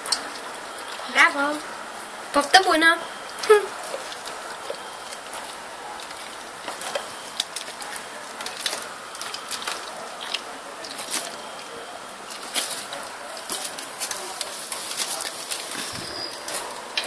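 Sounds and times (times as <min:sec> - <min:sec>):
dog chewing: 0:03.3 - 0:17.0.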